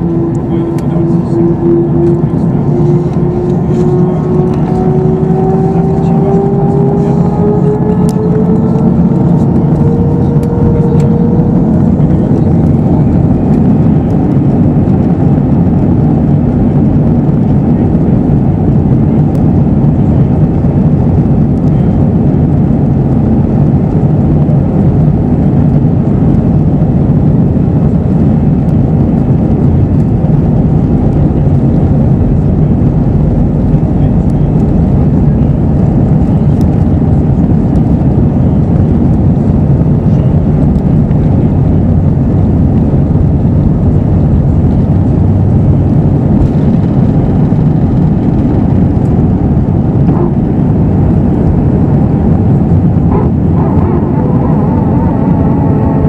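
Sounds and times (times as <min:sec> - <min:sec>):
airplane cabin engine roar: 0:00.0 - 0:56.0.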